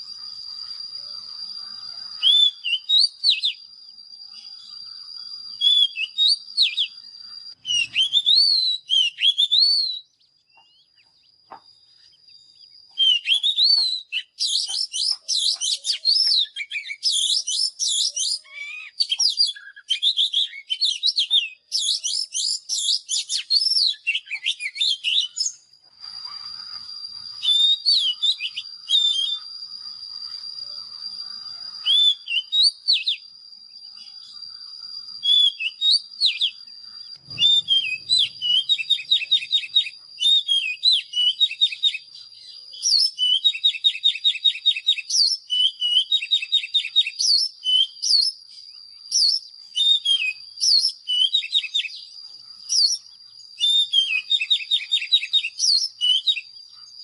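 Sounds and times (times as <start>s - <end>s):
bird singing whistled phrases: 0.0s - 57.0s.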